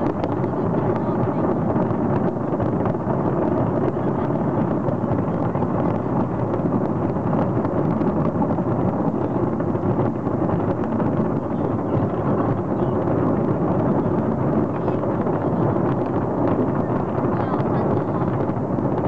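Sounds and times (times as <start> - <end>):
fireworks booming: 0.0 - 19.0
fireworks crackling: 0.0 - 19.0.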